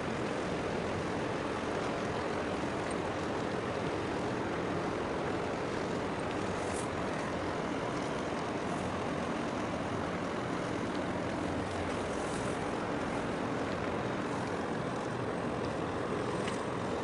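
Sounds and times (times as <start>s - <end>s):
ship engines rumbling: 0.0s - 17.0s.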